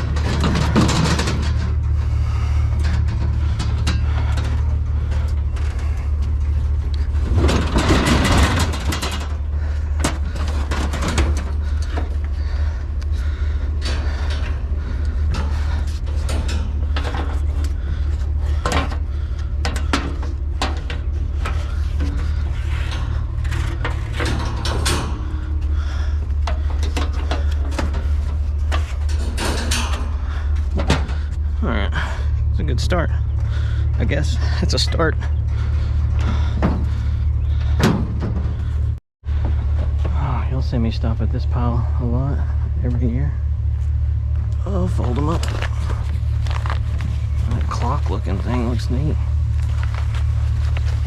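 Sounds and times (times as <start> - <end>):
scrap clanking and knocking: 0.0 - 51.0
truck engine idling: 0.0 - 51.0.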